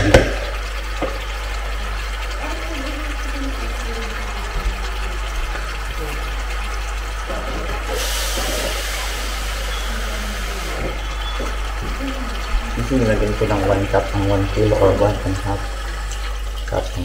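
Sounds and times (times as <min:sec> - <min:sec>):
water bubbling in pot: 0:00.0 - 0:17.0.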